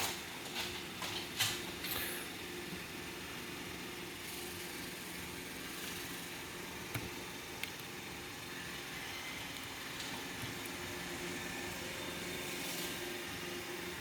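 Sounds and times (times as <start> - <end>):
hvac blower fan humming: 0.0 - 14.0.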